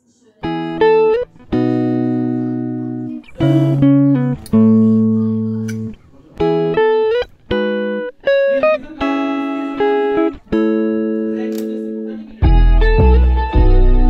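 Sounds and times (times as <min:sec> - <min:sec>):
plucked string melody: 0:00.4 - 0:14.0.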